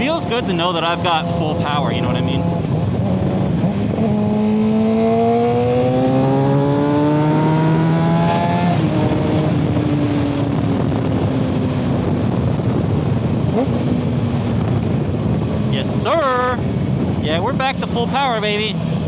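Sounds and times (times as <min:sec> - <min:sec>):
motorcycle engine accelerating: 0:00.0 - 0:19.0
wind noise on microphone: 0:00.0 - 0:19.0.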